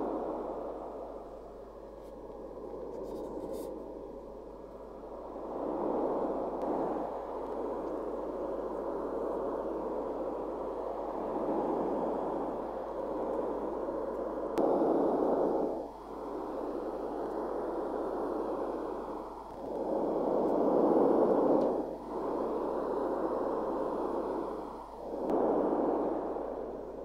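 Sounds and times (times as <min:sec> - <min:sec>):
test noise hiss from phone speaker: 0:00.0 - 0:27.0.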